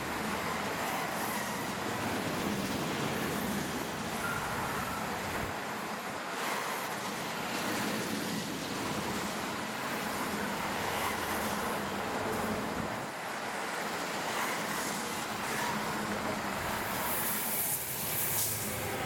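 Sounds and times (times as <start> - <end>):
freight wagons rolling on rails: 0.0 - 19.0.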